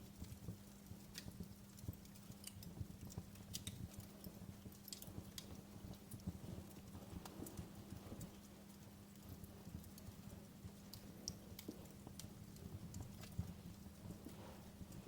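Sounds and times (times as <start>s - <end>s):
fire crackling with pops: 0.0s - 15.0s
low rumble of flames: 0.0s - 15.0s.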